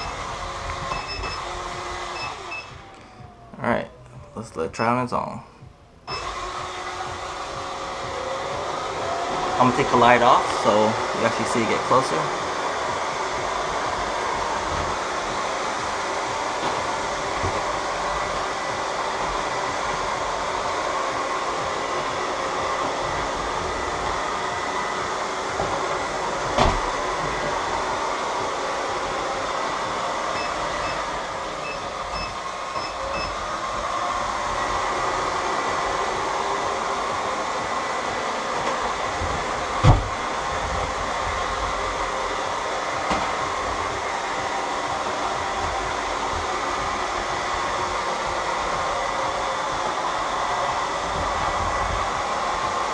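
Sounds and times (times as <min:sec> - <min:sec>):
robot vacuum whirring: 0:00.0 - 0:04.4, 0:06.0 - 0:52.9.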